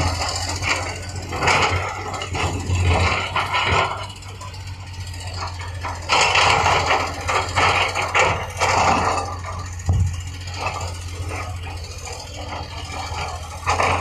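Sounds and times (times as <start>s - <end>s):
earthmoving machine engine: 0.0s - 14.0s
rattling and scraping: 0.0s - 14.0s.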